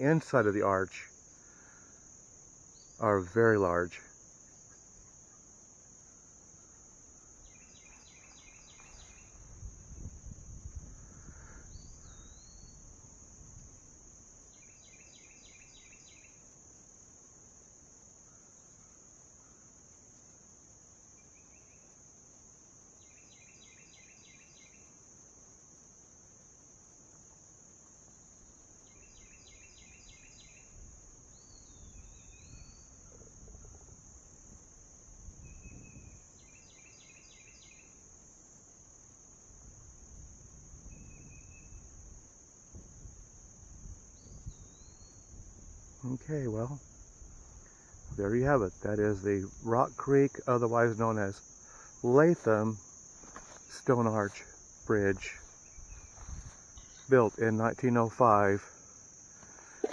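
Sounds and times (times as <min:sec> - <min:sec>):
songbird singing: 0:00.0 - 0:25.8, 0:26.6 - 0:59.9
insects droning: 0:00.0 - 0:59.9.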